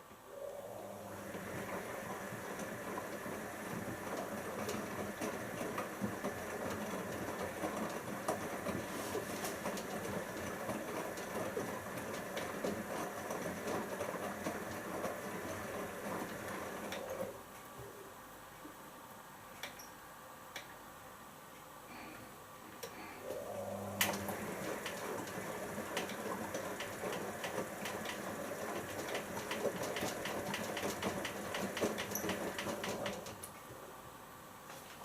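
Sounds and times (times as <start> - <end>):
washing machine motor hum: 0.0 - 17.9, 22.7 - 35.0.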